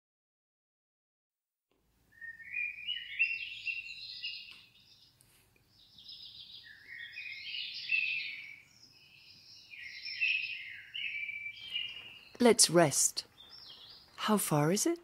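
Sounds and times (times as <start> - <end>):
high warbling birdsong: 2.1 - 15.0.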